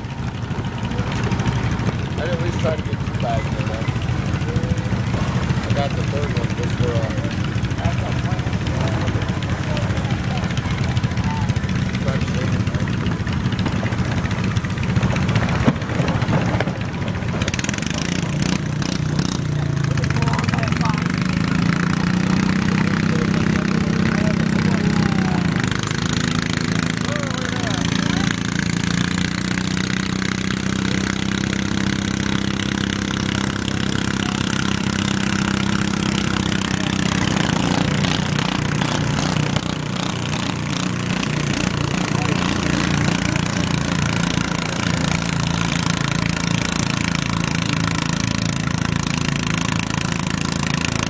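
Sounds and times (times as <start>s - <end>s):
small engine running: 0.0s - 51.0s.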